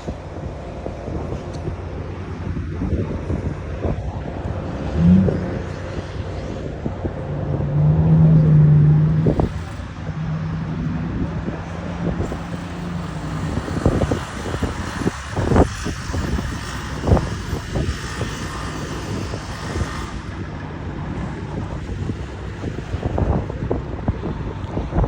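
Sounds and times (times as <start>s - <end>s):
heavy truck engine passing: 0.0s - 25.0s.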